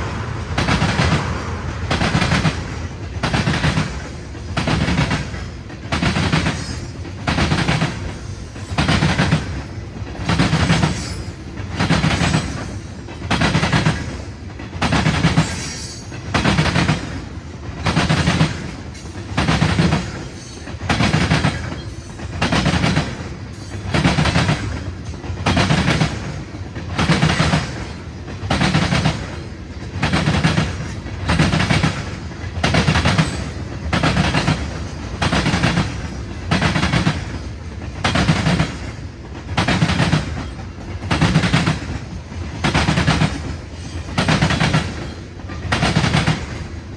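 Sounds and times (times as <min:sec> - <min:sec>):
freight train wheels clickety-clack: 0:00.0 - 0:46.9.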